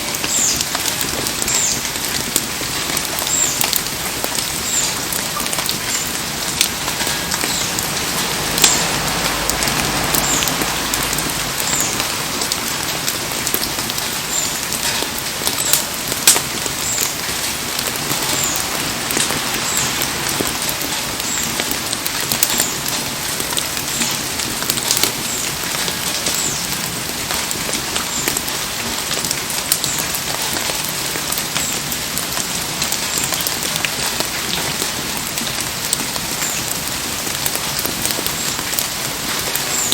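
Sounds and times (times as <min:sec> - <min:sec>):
heavy rain falling: 0:00.0 - 0:39.9
sharp ticks and pops: 0:00.0 - 0:39.9.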